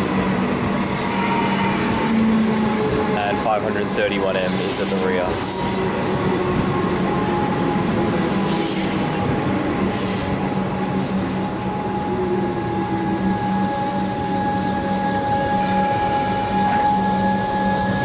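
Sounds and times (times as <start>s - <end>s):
rumble of wheels on rail: 0.0s - 18.0s
train whine: 0.0s - 18.0s.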